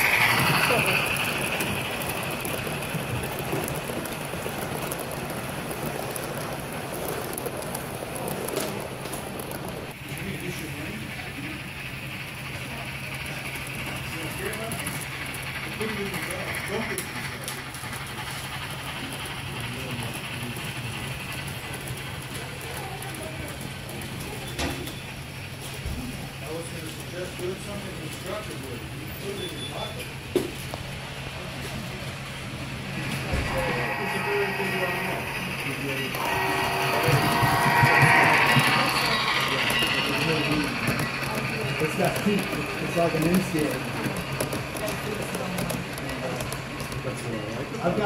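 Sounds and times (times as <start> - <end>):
model train cars rolling: 0.0 - 48.0.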